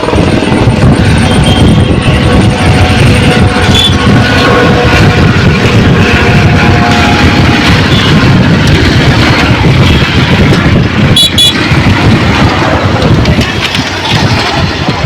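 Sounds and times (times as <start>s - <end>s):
loud aircraft engine noise: 0.0s - 15.0s.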